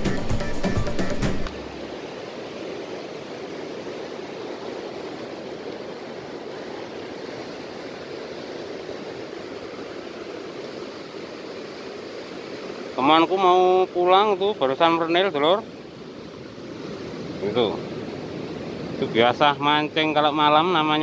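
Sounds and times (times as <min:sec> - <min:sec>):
ocean surf on rocks: 0:00.0 - 0:21.0.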